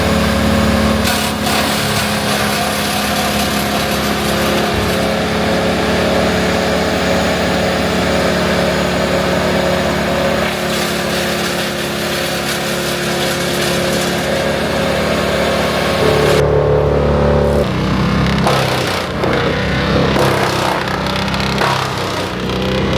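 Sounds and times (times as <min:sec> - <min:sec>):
wood chipper running: 0:00.0 - 0:22.9.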